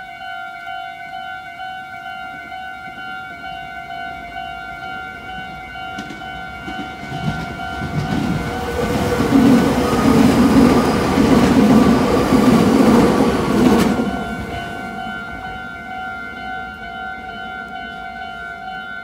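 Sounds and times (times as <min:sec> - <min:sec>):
crossing warning bell ringing: 0:00.0 - 0:19.0
train rumble and wheel noise: 0:00.6 - 0:19.0.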